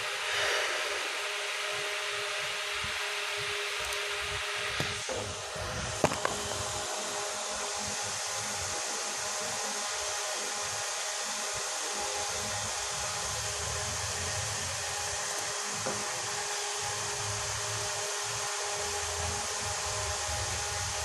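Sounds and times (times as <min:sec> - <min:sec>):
steady fan-like rushing: 0:00.0 - 0:21.0.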